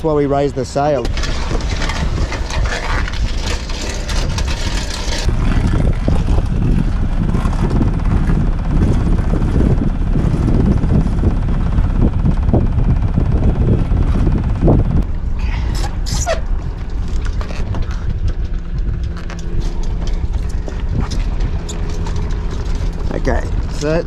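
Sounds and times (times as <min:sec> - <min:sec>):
boat motor running: 0:00.0 - 0:24.0
wind buffeting microphone: 0:00.0 - 0:24.0.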